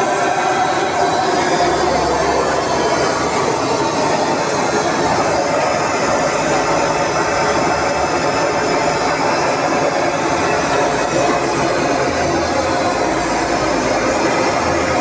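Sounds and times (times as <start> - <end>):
engine running loudly: 0.0 - 15.0.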